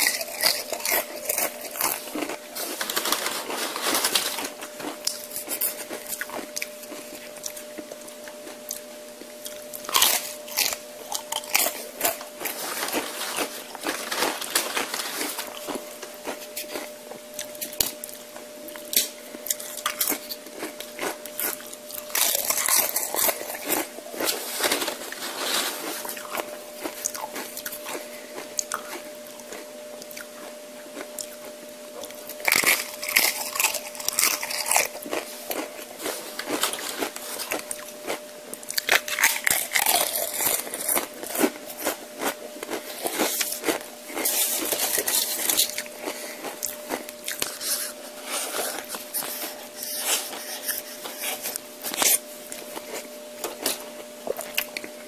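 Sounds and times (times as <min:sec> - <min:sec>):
crunching chips: 0:00.0 - 0:55.0
faint steady hum: 0:00.0 - 0:55.0.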